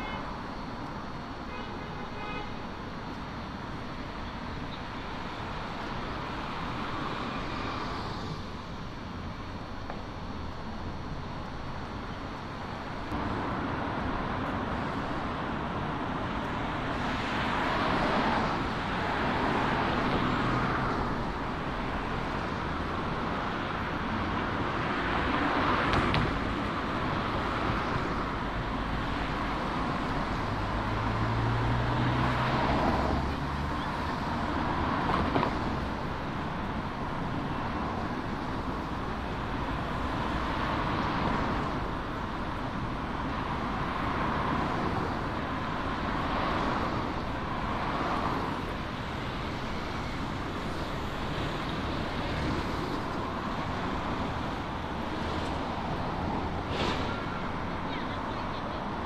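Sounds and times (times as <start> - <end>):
background traffic: 0.0 - 59.0
cars passing: 2.6 - 59.0.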